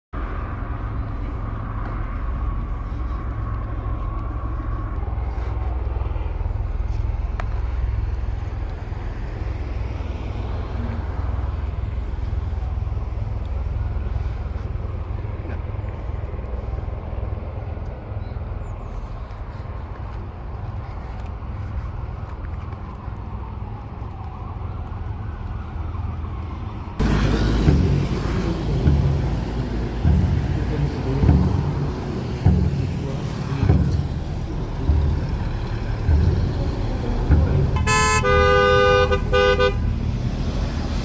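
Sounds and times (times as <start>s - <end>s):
low rumble of passing cars: 0.2s - 41.0s.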